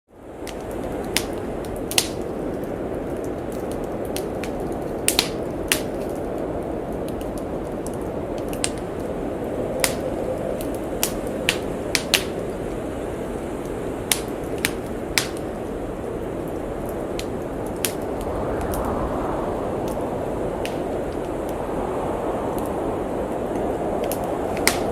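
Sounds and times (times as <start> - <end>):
blizzard wind rushing: 0.2 - 24.9
wood fire crackling and popping: 0.2 - 24.9.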